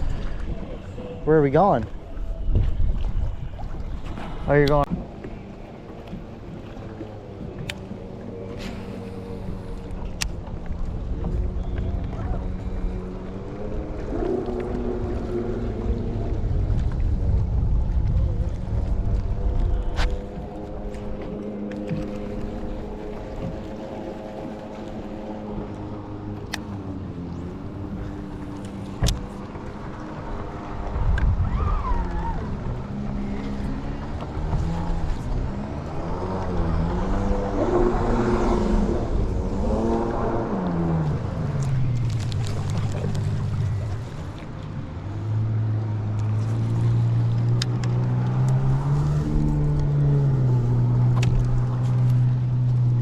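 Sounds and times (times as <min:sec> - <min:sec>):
outboard motor running: 0:00.0 - 0:53.0
wind buffeting microphone: 0:00.0 - 0:53.0.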